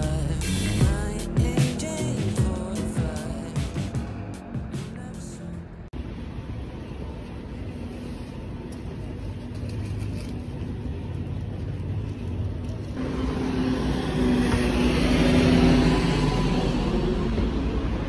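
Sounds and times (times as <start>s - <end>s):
low rumble of cars: 0.0s - 18.0s.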